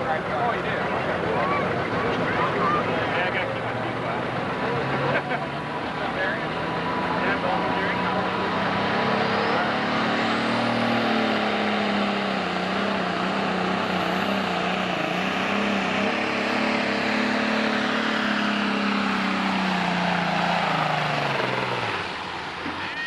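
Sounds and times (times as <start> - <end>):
tractor diesel engine at full throttle: 0.0 - 23.0.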